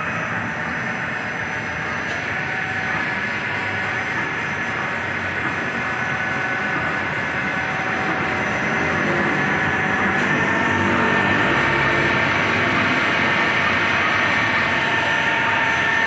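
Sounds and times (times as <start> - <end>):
lathe hum with high whine: 0.0 - 16.0.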